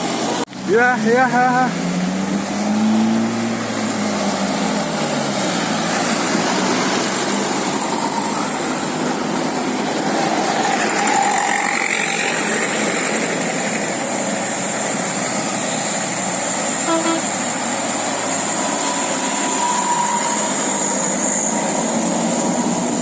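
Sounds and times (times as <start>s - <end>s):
vehicle engines and tyres: 0.0s - 23.0s.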